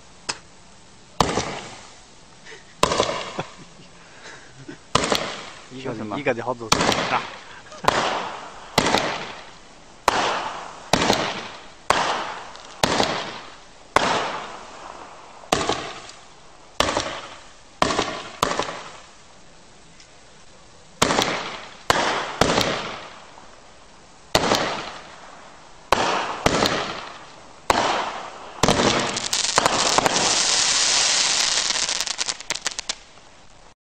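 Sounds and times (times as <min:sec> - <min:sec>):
fireworks crackling: 0:00.0 - 0:33.8
fireworks bangs: 0:01.2 - 0:02.0, 0:02.8 - 0:03.9, 0:04.5 - 0:19.2, 0:21.0 - 0:33.3.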